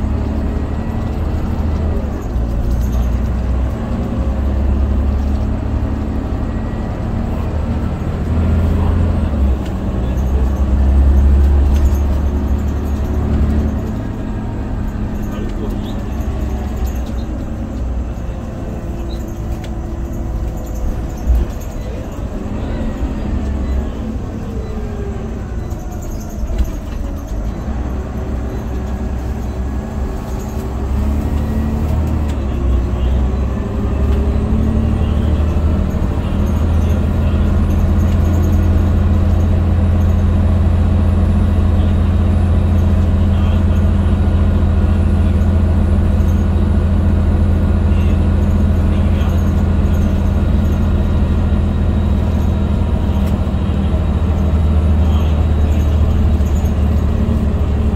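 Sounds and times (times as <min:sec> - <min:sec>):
bus diesel engine drone: 0:00.0 - 0:57.9.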